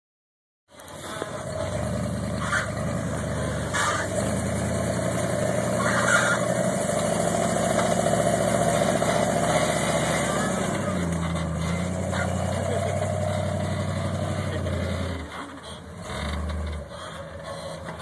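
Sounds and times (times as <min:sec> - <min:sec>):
truck engine running low: 0:00.7 - 0:18.0.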